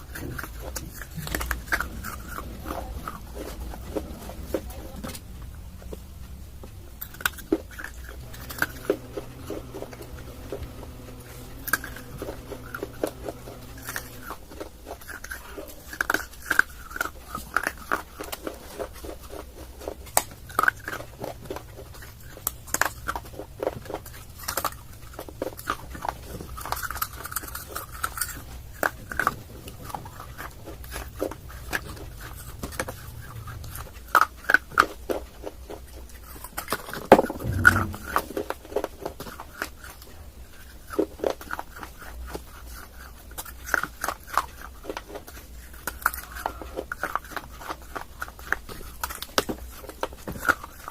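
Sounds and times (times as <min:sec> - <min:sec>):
dry clay being chewed: 0:00.0 - 0:50.9
faint low hum: 0:00.0 - 0:50.9.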